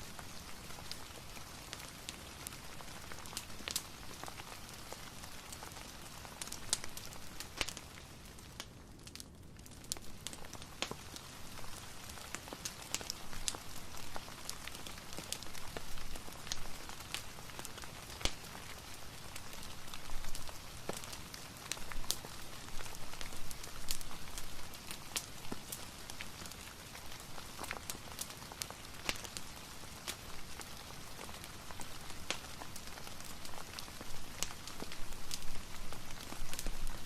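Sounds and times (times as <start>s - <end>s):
crackling wood fire: 0.0s - 37.0s
steady rain hiss: 0.0s - 37.0s.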